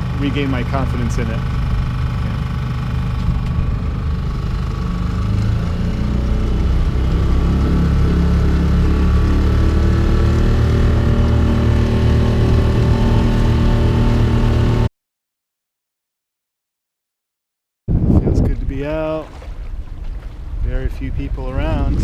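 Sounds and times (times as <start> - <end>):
outboard motor running: 0.0 - 14.9, 17.9 - 22.0.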